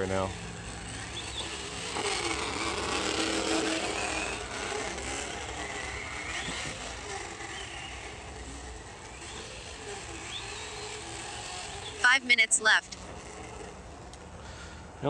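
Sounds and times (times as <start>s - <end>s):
simulated engine sound from speaker: 0.0s - 13.8s.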